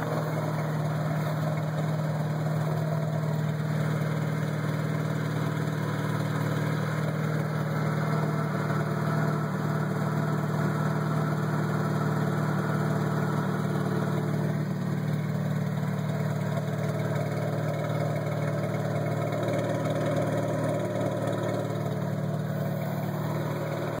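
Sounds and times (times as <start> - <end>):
rotary engine idling: 0.0 - 24.0.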